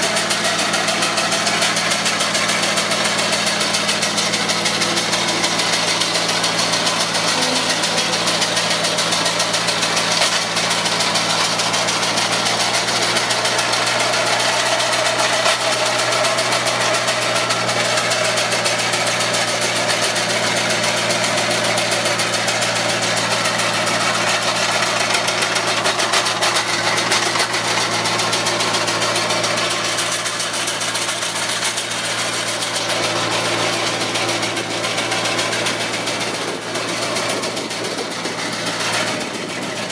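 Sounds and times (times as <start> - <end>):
hedge trimmer cutter clatter: 0.0 - 39.9
loader engine running: 0.0 - 39.9.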